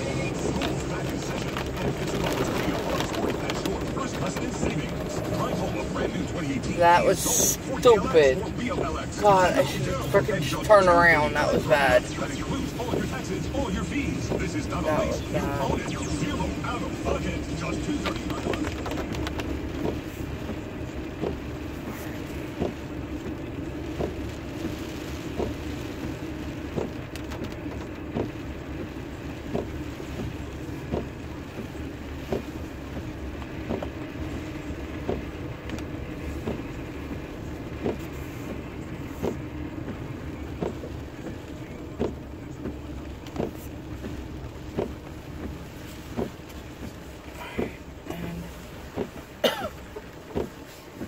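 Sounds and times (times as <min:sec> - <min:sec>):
car engine and tyres rumbling: 0:00.0 - 0:51.0
windshield wipers knocking: 0:00.0 - 0:51.0.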